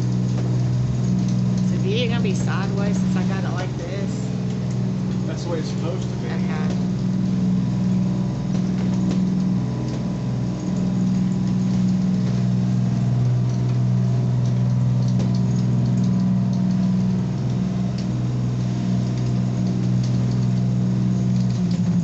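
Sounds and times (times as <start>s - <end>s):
diesel engines droning: 0.0s - 22.0s.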